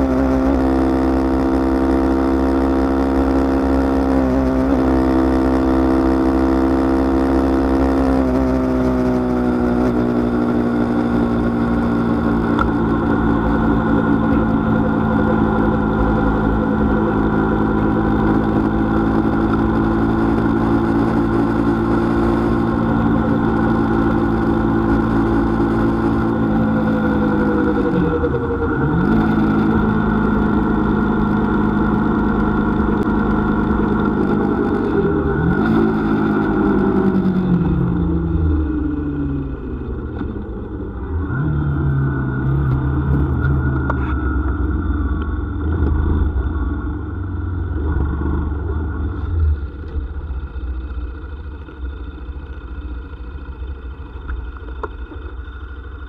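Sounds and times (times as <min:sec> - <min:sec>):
vehicle engine cruising: 0:00.0 - 0:56.0.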